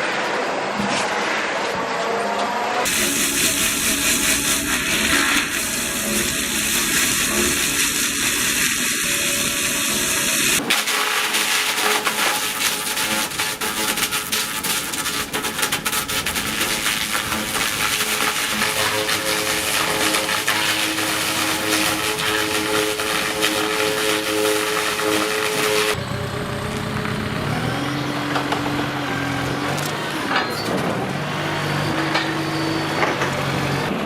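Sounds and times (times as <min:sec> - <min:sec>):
engine running: 0:00.0 - 0:14.2, 0:14.9 - 0:34.0
machine whine: 0:00.0 - 0:34.0
sawmill machinery rattling: 0:00.0 - 0:34.0.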